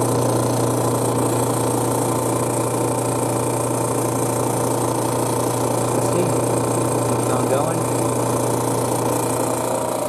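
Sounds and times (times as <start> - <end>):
recovery machine humming: 0.0 - 10.0.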